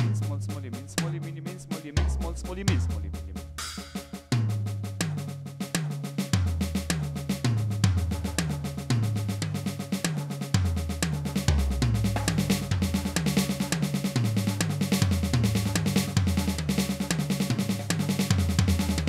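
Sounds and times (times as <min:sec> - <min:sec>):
bass drum: 0:00.0 - 0:19.0.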